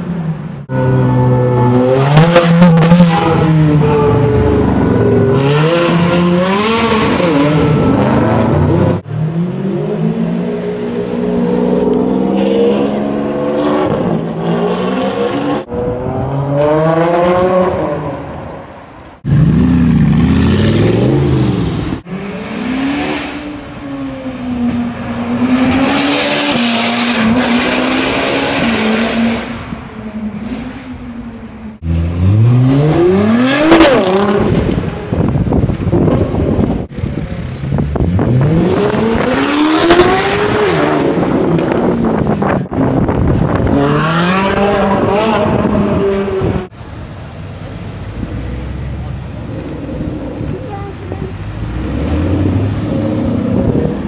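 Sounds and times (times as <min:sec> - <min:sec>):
sports car engines revving: 0:00.1 - 0:18.6, 0:19.2 - 0:54.0.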